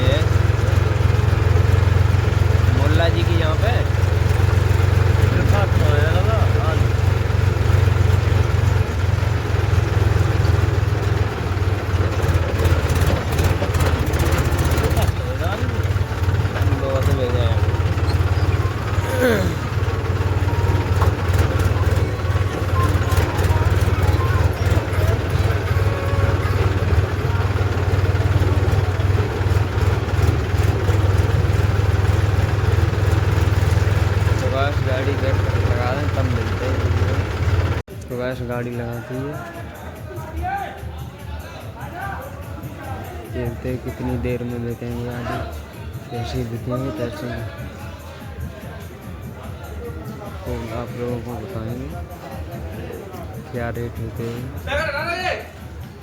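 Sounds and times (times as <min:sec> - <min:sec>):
tractor diesel engine running: 0:00.0 - 0:40.1, 0:42.2 - 0:56.0.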